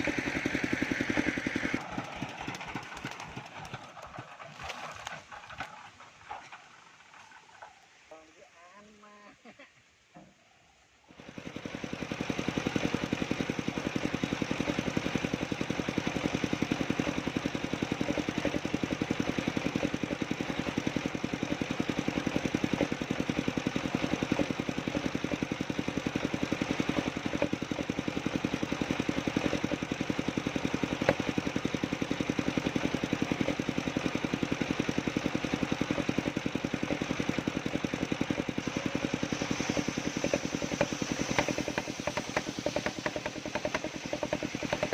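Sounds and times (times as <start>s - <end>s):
sawmill engine running: 0.0s - 8.4s, 11.1s - 44.9s.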